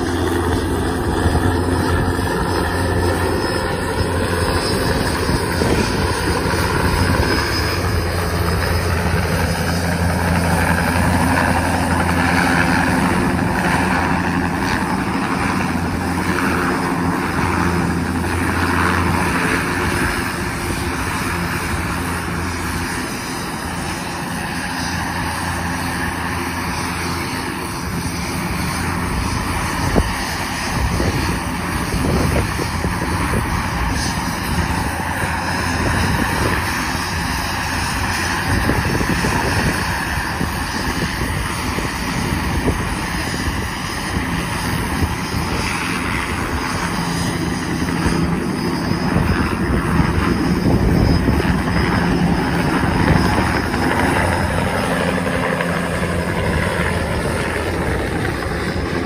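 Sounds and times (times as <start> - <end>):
helicopter rotor beat: 0.0 - 59.0.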